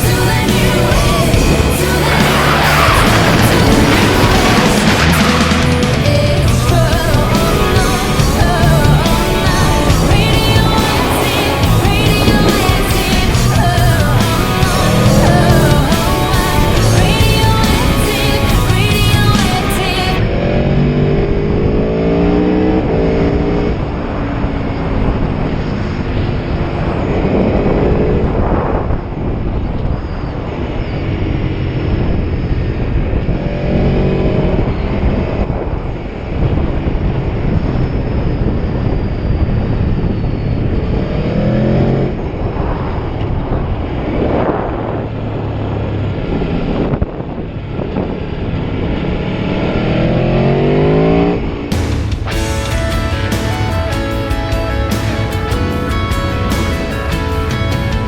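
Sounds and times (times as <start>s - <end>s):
motorcycle engine revving: 0.0s - 29.8s, 30.5s - 58.0s
wind noise: 0.0s - 58.0s.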